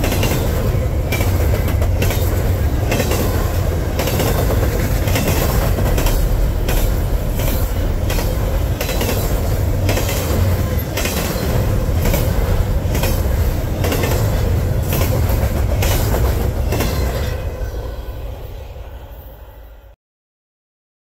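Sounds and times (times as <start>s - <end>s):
wheels clicking over rail joints: 0.0s - 17.2s
freight train rumbling past: 0.0s - 20.0s.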